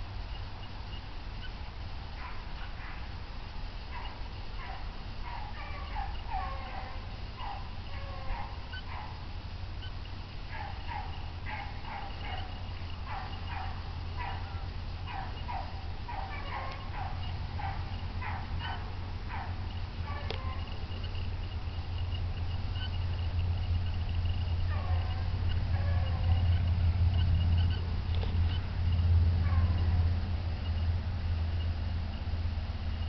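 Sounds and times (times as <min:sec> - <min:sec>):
hounds baying: 0:02.1 - 0:03.2, 0:03.8 - 0:30.2.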